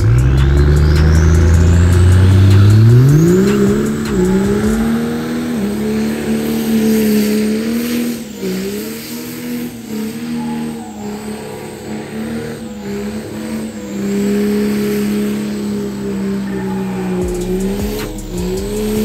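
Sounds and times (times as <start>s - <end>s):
diesel truck engine revving: 0.0s - 19.0s
tires spinning: 0.0s - 19.0s.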